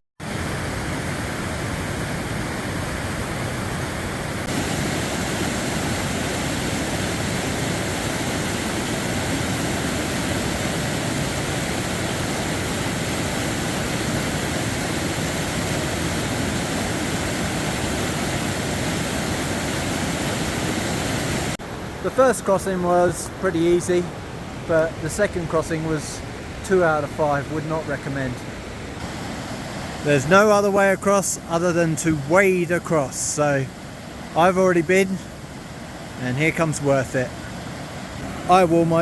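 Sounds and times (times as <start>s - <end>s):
fast-flowing creek rushing: 0.2s - 39.0s.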